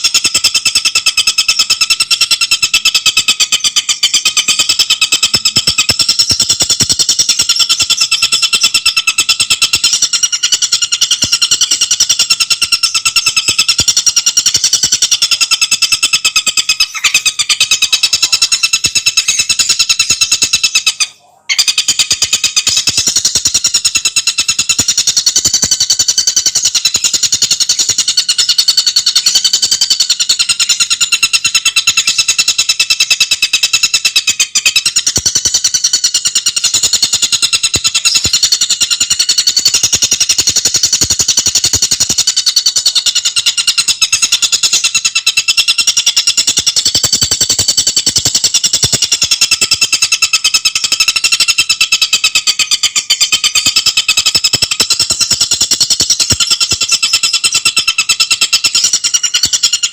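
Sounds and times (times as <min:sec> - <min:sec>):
bird calling in rapid trill: 0:00.0 - 0:59.9.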